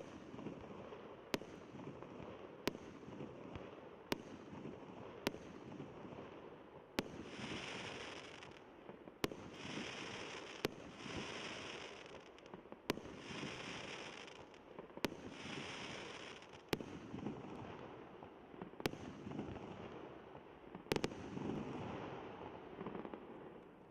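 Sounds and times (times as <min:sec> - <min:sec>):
hissing crackle of fireworks: 0:00.0 - 0:23.9.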